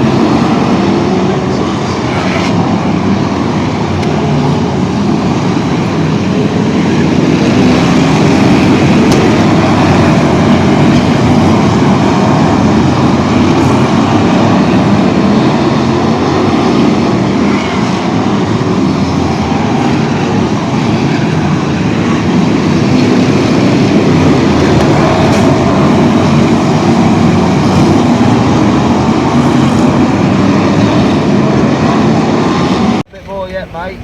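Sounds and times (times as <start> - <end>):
vehicle rumble and road noise: 0.0 - 34.0.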